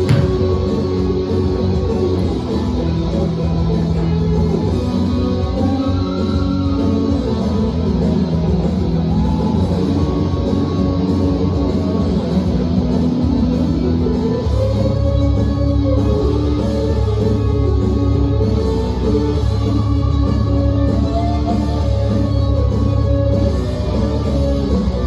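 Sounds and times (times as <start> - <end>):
instrumental rock music with guitar: 0.0 - 25.0.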